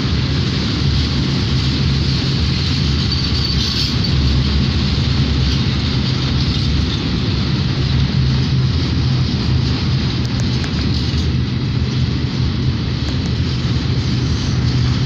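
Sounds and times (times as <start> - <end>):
steel wheels rolling on rails: 0.0 - 15.0.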